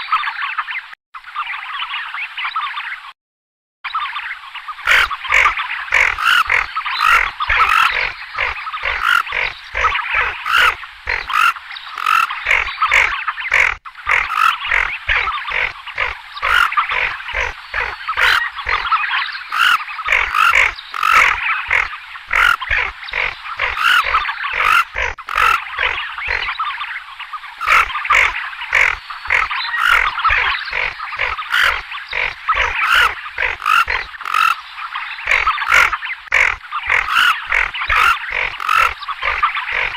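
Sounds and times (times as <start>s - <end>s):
ducks croaking calls: 4.8s - 26.9s, 27.5s - 39.9s.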